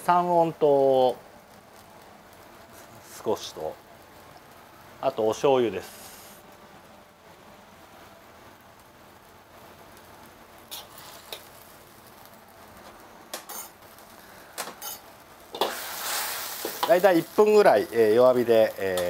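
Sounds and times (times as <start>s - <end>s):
sauce sizzling in a wok: 0.0s - 19.0s.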